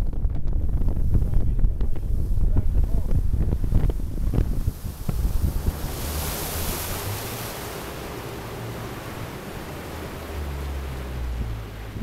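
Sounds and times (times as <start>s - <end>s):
rush of wind and water: 0.0s - 12.0s.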